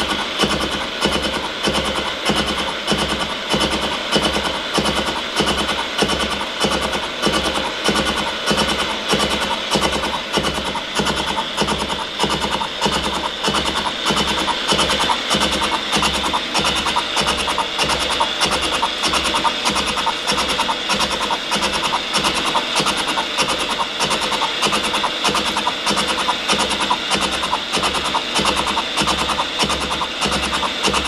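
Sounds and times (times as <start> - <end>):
milling machine cutter chatter: 0.0 - 31.0.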